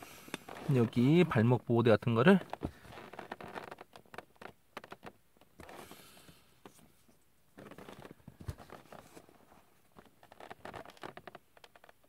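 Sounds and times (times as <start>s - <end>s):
soft rustling: 2.2s - 11.9s.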